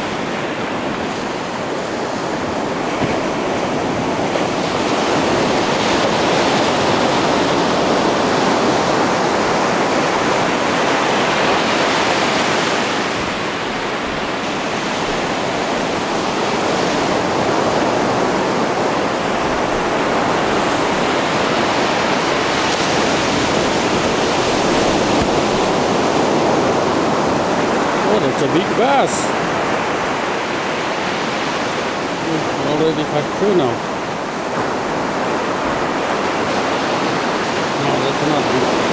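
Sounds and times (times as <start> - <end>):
ocean surf washing up a beach: 0.0 - 38.9.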